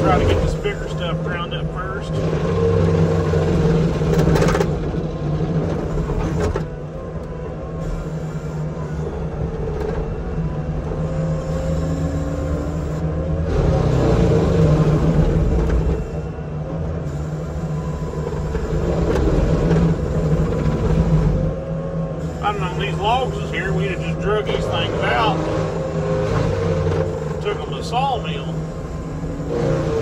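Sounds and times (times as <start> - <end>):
mulcher engine droning: 0.0 - 30.0.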